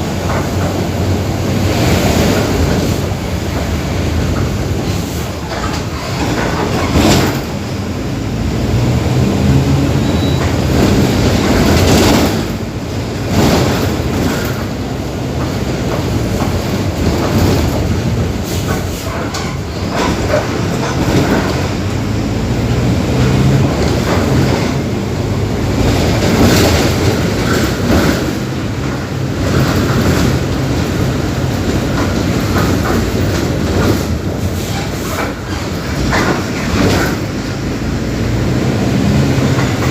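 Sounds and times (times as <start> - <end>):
bus body rattling: 0.0 - 39.9
bus diesel engine humming: 0.0 - 39.9.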